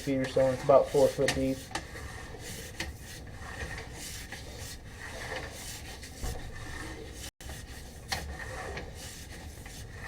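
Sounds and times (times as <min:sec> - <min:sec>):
cable rubbing and scraping in pipe: 0:00.0 - 0:10.0.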